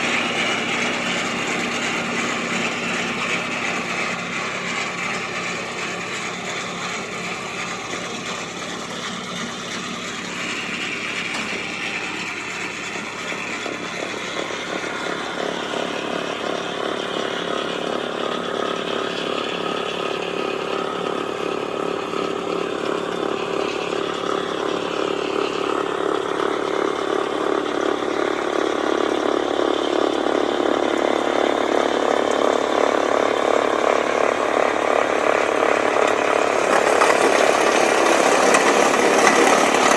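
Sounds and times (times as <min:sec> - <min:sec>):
snowblower auger clattering: 0:00.0 - 0:39.9
tractor diesel engine under load: 0:00.0 - 0:39.9.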